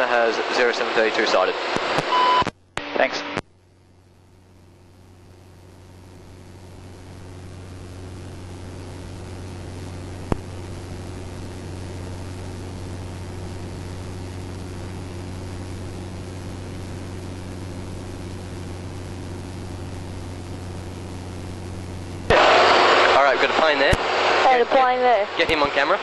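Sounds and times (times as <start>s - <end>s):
light aircraft engine droning: 0.0s - 2.0s, 3.8s - 26.0s.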